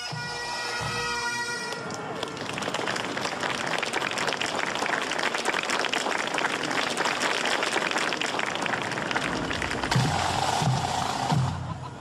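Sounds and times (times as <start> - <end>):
crowd applauding: 1.6 - 11.8.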